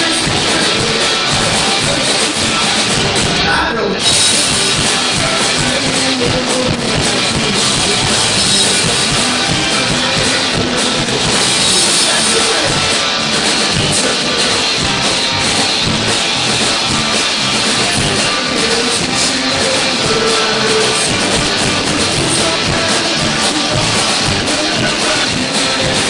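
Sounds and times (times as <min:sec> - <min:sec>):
drum kit: 0:00.0 - 0:26.0
electric guitar: 0:00.0 - 0:26.0.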